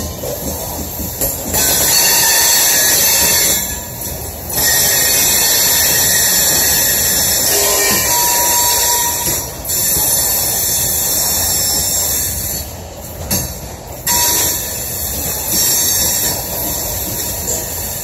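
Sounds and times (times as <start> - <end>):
train wheels screeching on rail: 0.0 - 18.0.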